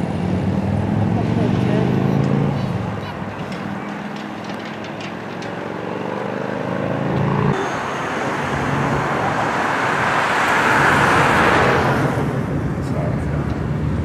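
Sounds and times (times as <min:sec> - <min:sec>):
motorcycles passing: 0:00.0 - 0:14.0.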